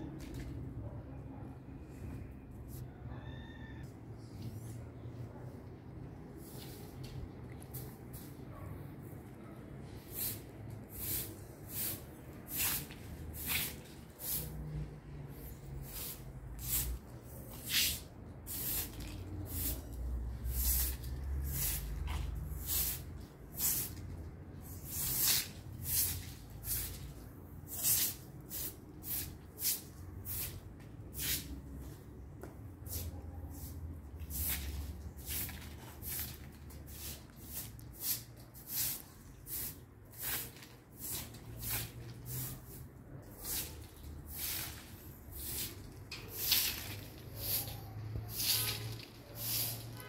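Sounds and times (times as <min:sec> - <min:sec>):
broom sweeping concrete floor: 0:04.2 - 0:50.0.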